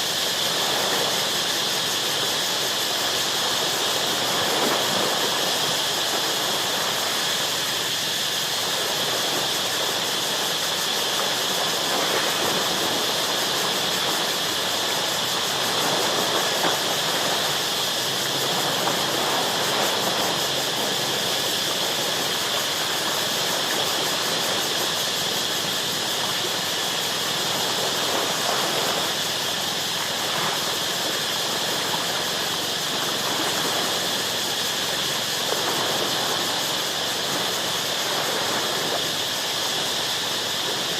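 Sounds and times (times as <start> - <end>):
insects droning: 0.0 - 40.9
surf washing against rocks: 0.0 - 40.9.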